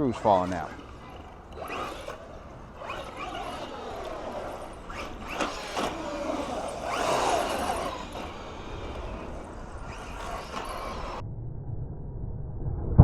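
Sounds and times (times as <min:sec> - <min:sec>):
electric motor whining: 0:00.0 - 0:11.2.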